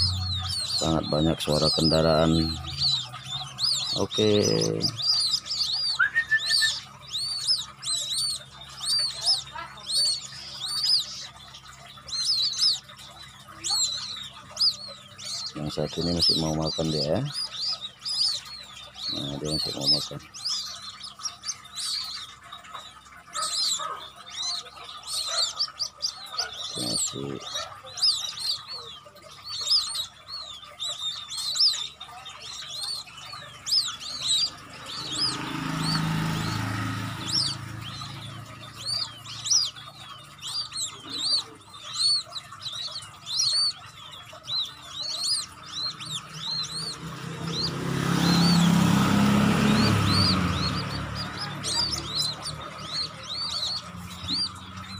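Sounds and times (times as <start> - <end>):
chicks peeping: 0.0 - 54.9
road traffic rumble: 0.0 - 54.9.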